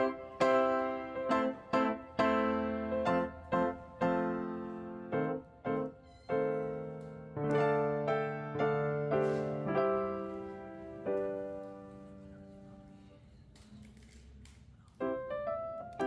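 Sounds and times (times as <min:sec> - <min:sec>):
slow piano melody: 0:00.0 - 0:13.3, 0:14.9 - 0:16.0.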